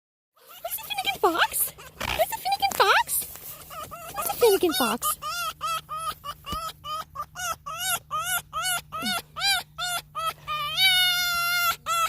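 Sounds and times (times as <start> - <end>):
fox squeaking: 0.4 - 12.0
fox whining: 0.4 - 12.0.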